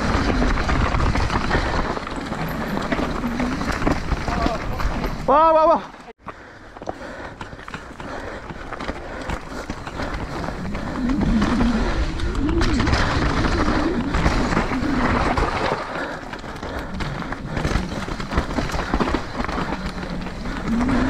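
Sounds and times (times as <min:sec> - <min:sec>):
bike rattling and clicking: 0:00.0 - 0:21.0
bike tyres on dirt trail: 0:00.0 - 0:21.0.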